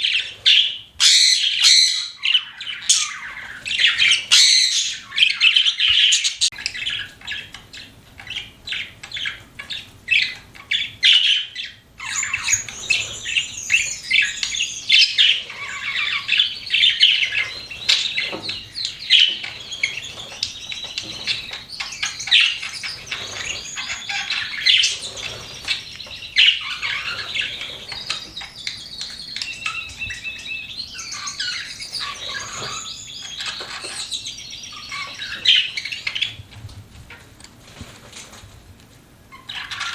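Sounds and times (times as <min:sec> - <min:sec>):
budgerigars chirping and warbling: 0:00.0 - 0:37.4, 0:39.3 - 0:39.9.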